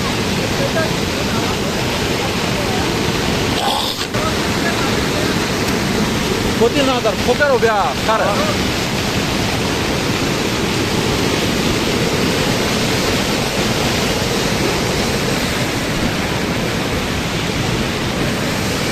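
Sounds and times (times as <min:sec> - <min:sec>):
floodwater roaring in a stream: 0:00.0 - 0:18.9.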